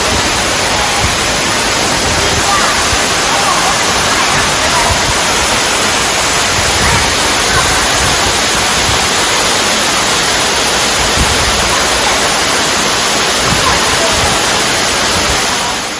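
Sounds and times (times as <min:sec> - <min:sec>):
waterfall roaring in a cave: 0:00.0 - 0:15.9.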